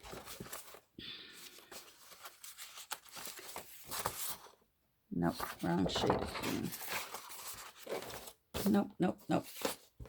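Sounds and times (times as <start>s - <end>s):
paper rustling: 0.0s - 4.6s, 5.3s - 10.0s.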